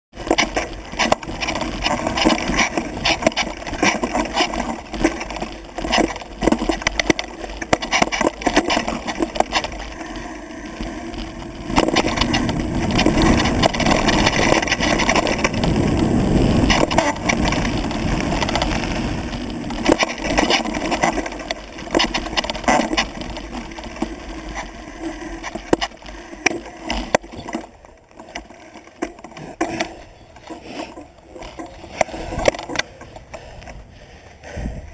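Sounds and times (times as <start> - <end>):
mountain bike rattling on trail: 0.1 - 34.9.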